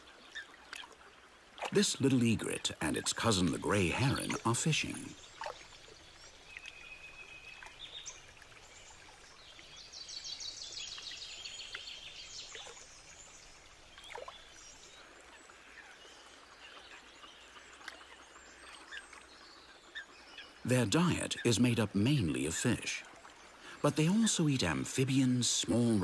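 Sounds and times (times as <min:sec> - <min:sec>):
songbird chirps: 0:00.0 - 0:26.0
water running softly: 0:00.0 - 0:26.0.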